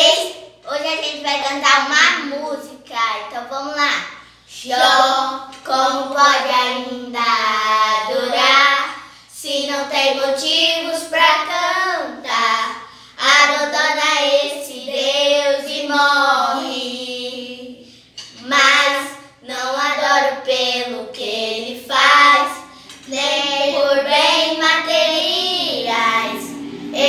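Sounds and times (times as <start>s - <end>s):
children singing: 4.5s - 17.8s, 18.4s - 27.0s.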